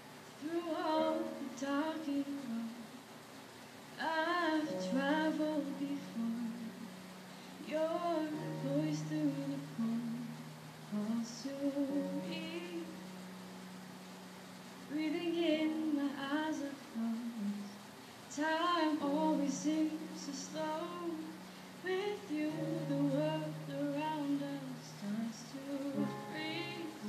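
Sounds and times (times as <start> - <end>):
woman singing: 0.4 - 2.9, 4.0 - 6.9, 7.6 - 13.1, 14.9 - 27.0
grand piano: 0.6 - 2.7, 4.5 - 16.9, 18.5 - 27.0.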